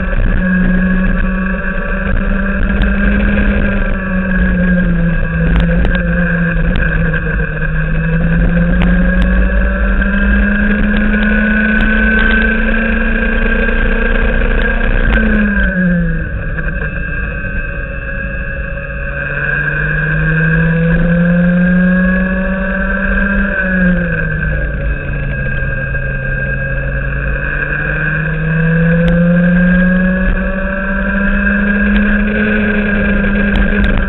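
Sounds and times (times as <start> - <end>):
kart engine at full power: 0.0 - 34.0.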